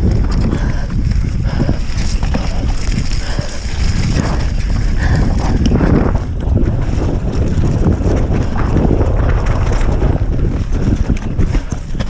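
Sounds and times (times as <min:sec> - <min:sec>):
bike rattling on rough trail: 0:00.0 - 0:12.0
wind buffeting microphone: 0:00.0 - 0:12.0.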